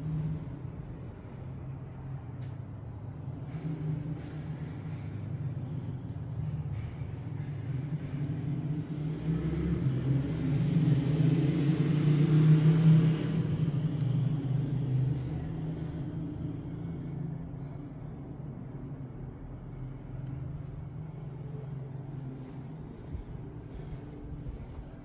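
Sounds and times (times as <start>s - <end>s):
vehicle engine passing by: 0.0s - 25.0s.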